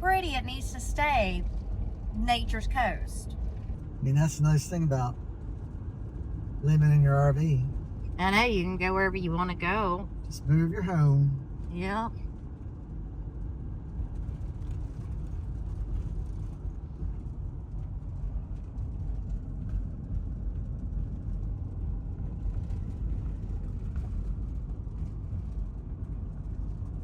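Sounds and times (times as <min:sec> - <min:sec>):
vehicle road noise rumble: 0:00.0 - 0:27.0.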